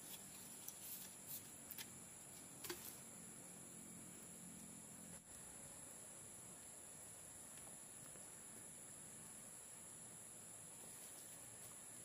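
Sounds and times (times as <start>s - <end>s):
forest insects droning: 0.0s - 12.0s.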